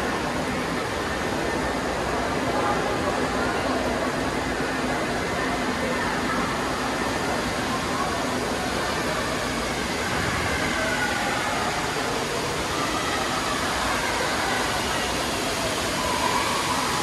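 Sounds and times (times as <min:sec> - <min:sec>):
ventilation blowing: 0:00.0 - 0:17.0.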